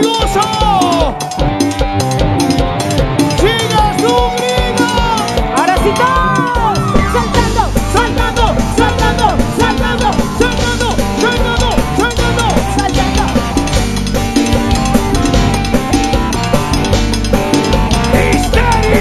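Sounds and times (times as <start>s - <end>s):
drum kit and bass beat: 0.0s - 19.0s
electric guitar lead lines: 0.0s - 19.0s.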